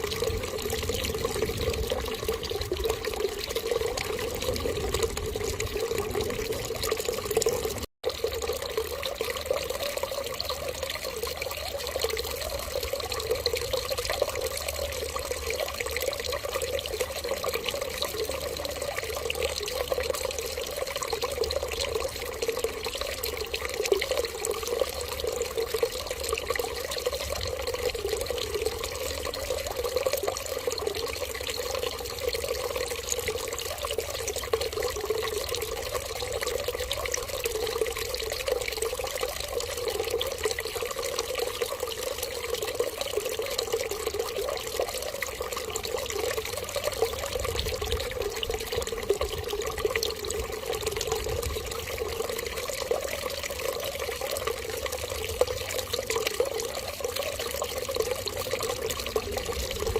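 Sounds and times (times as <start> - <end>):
water running in a stream: 0.0 - 59.9.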